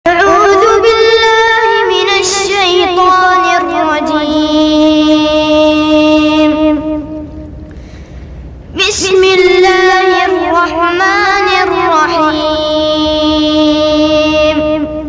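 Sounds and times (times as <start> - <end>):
boy chanting recitation: 0.1 - 7.4, 8.8 - 15.0.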